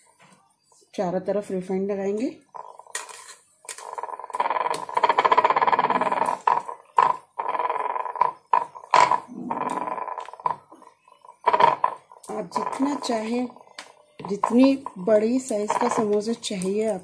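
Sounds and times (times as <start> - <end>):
rolling pin rolling dough: 2.5 - 17.0.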